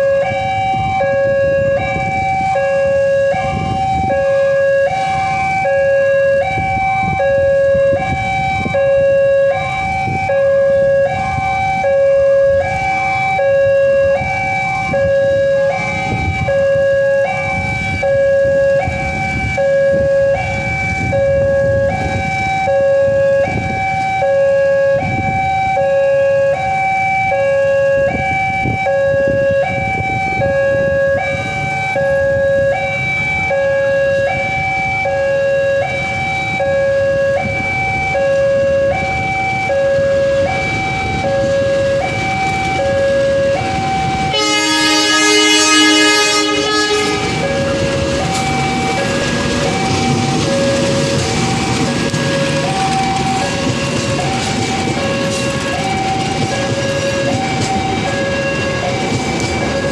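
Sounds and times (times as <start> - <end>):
level crossing two-tone alarm: 0.0 - 59.9
locomotive horn: 0.0 - 59.9.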